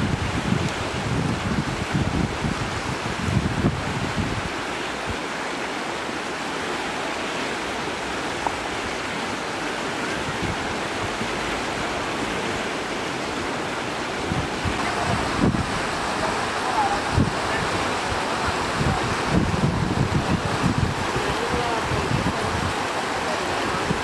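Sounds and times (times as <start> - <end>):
wind buffeting microphone: 0.0 - 5.2, 8.1 - 24.0
stream rushing over stones: 0.0 - 24.0.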